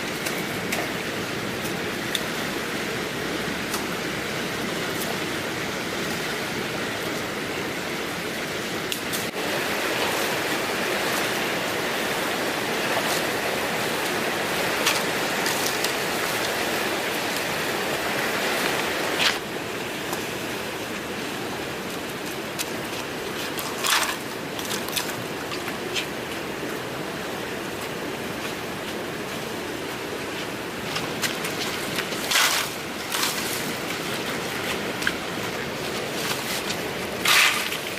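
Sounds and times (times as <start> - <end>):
flowing water rushing: 0.0 - 37.9.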